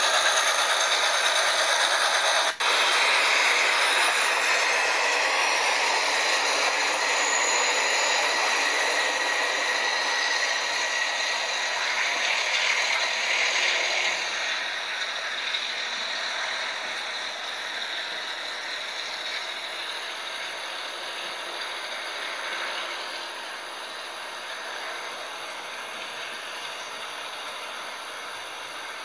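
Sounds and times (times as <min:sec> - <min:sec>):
high wheel squeal: 0:00.0 - 0:29.0
train rattling along track: 0:00.0 - 0:29.0.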